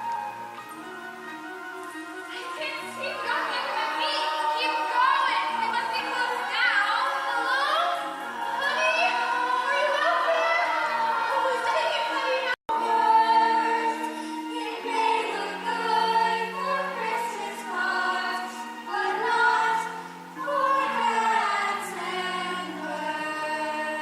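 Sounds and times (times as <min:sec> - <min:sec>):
show tune singing: 0:00.5 - 0:24.0.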